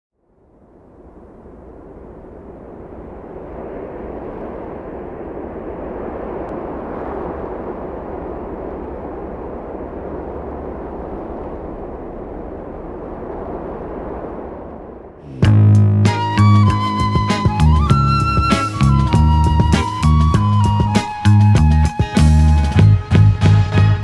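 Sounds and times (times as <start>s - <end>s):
deep rushing noise: 0.9s - 24.0s.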